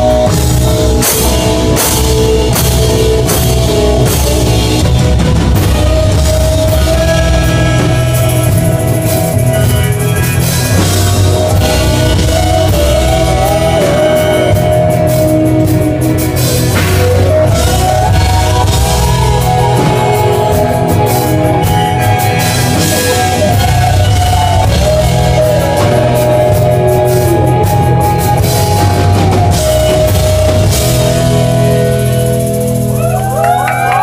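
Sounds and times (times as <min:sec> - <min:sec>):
rock band playing live: 0:00.0 - 0:34.0
sliding lead melody: 0:00.0 - 0:34.0.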